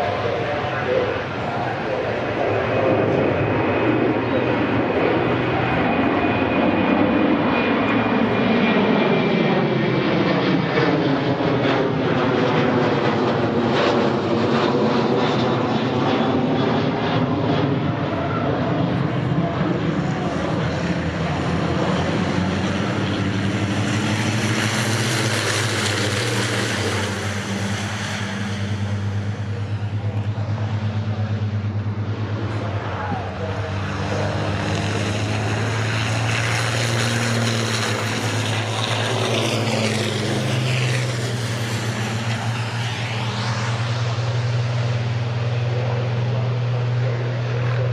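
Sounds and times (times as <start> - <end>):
diesel truck engines droning: 0.0 - 8.9, 16.9 - 47.9.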